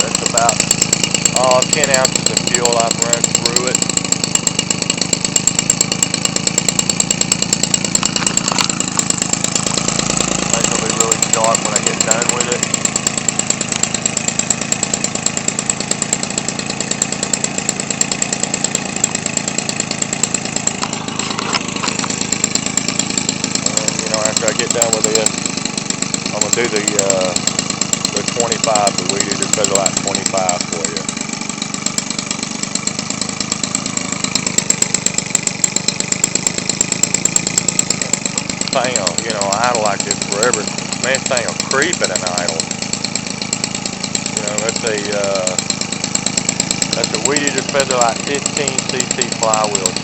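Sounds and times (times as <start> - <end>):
two-stroke engine with propeller: 0.0 - 50.0.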